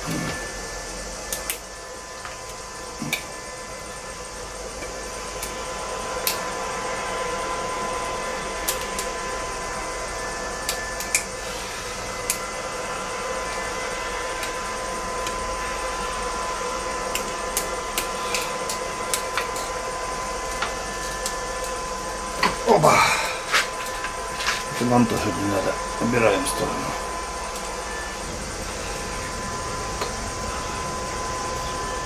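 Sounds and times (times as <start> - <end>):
steady hum with thin whine: 0.0 - 32.0.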